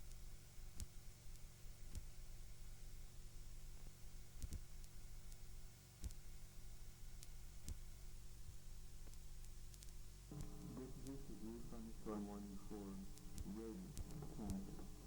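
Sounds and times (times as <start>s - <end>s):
faint clicks: 0.0s - 15.0s
tape hum and hiss: 0.0s - 15.0s.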